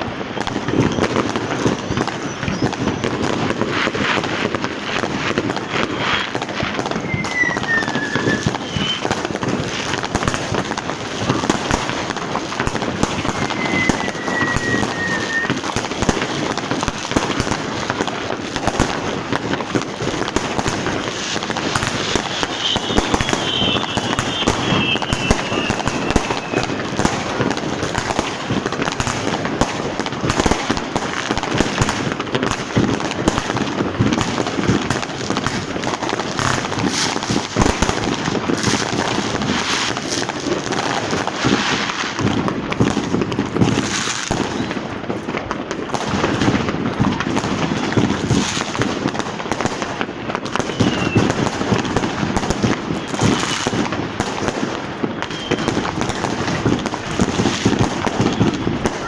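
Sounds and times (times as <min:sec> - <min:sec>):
fireworks cracks and bangs: 0:00.0 - 0:59.0
falling firework whistles: 0:00.3 - 0:18.0, 0:20.2 - 0:32.6, 0:33.3 - 0:44.9, 0:50.3 - 0:54.0, 0:55.0 - 0:59.0.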